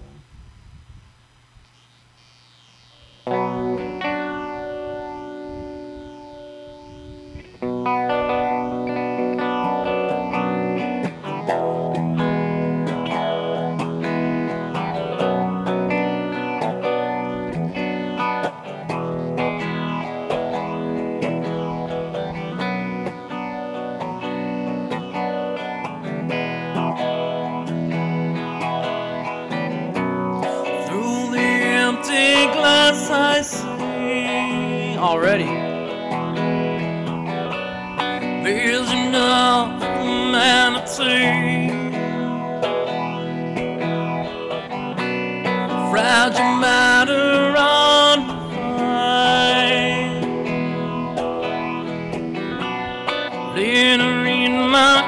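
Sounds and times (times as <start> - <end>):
guitar with effects: 0.0 - 55.0.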